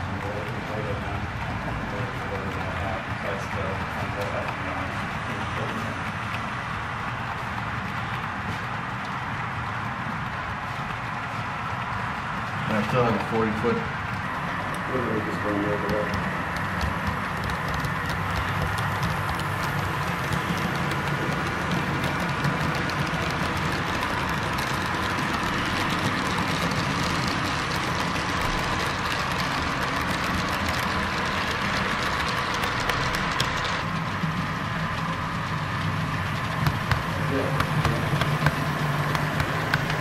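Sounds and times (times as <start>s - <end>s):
model train running hum: 0.0s - 40.0s
wheels clicking on rails: 0.0s - 40.0s.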